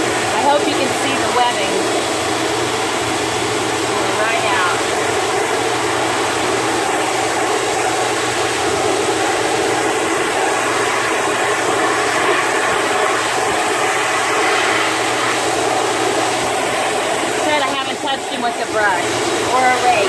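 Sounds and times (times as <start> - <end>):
dryer air rushing: 0.0 - 20.0.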